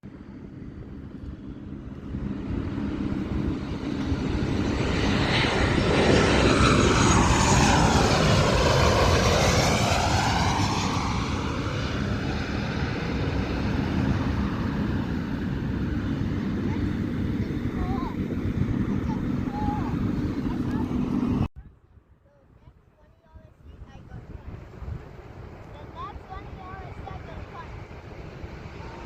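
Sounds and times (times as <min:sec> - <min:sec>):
aircraft engine flying past: 0:00.0 - 0:21.5, 0:22.3 - 0:29.0.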